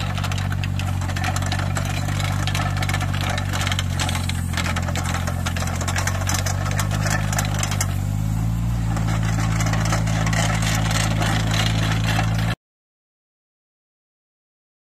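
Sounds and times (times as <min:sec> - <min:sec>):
excavator engine running: 0:00.0 - 0:12.6
light clatter: 0:00.0 - 0:12.6.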